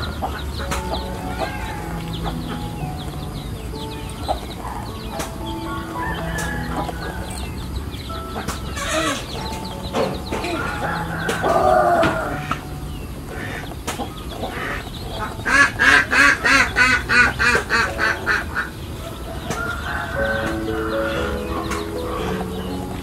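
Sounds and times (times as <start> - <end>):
background music: 0.0 - 23.0
poultry calling: 0.0 - 23.0.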